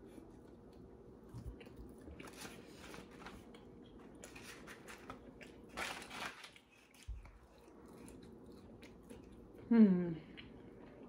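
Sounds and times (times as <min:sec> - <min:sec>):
chewing fries: 0:00.0 - 0:09.7.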